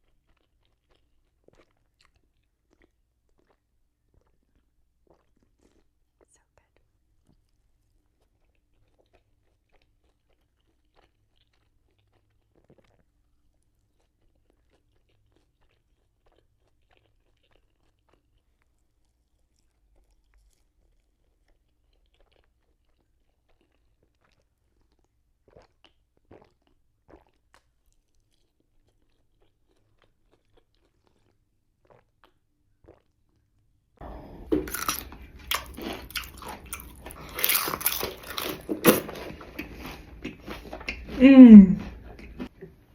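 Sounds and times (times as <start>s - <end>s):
crunching and chewing chips: 0.0s - 41.2s.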